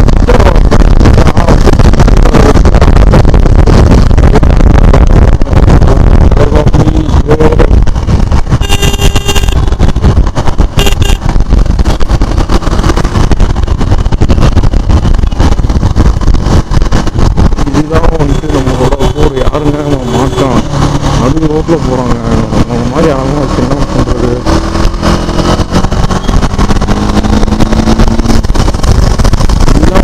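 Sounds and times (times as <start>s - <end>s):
motorcycle engine running: 0.0s - 30.0s
wind buffeting on microphone: 0.0s - 30.0s.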